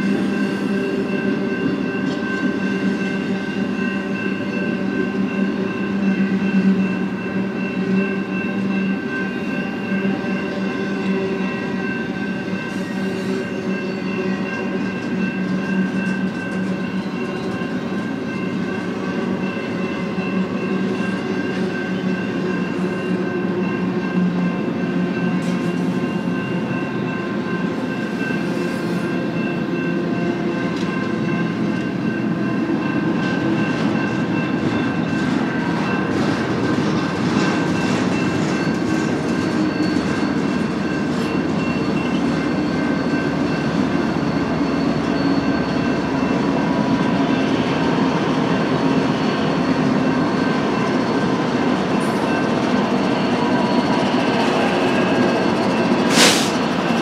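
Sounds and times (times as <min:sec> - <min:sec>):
train wheels rumbling and clattering: 0:00.0 - 0:57.0.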